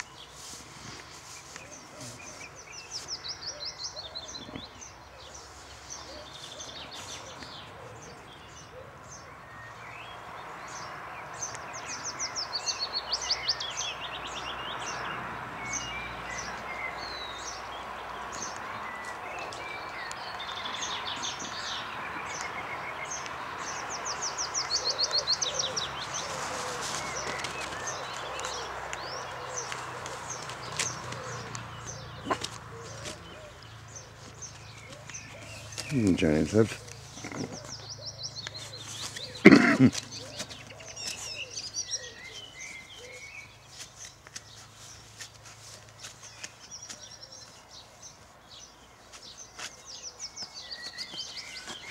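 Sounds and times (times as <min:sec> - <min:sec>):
songbirds chirping and singing: 0:00.0 - 0:51.9.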